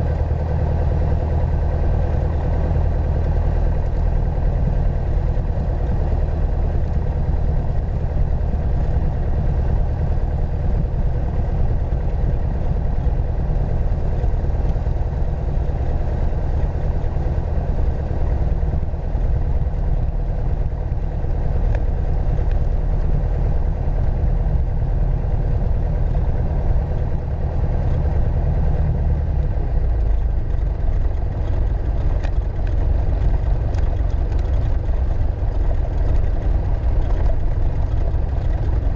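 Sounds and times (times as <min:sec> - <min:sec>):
aircraft engine low drone: 0:00.0 - 0:38.9.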